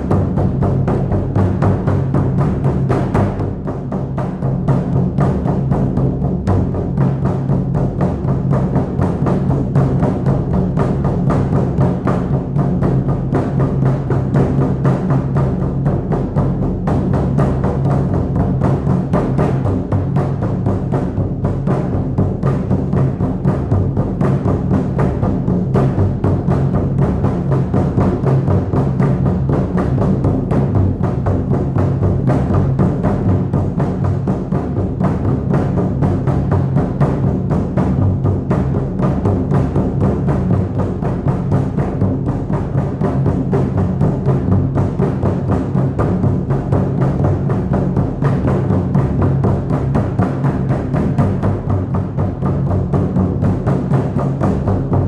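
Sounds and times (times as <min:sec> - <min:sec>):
hand drum beating fast: 0:00.0 - 0:55.0.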